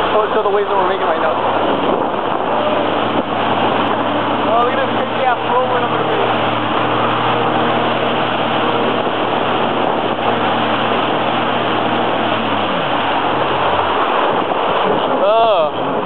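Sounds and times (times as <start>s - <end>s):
jet ski engine running: 0.0s - 16.0s.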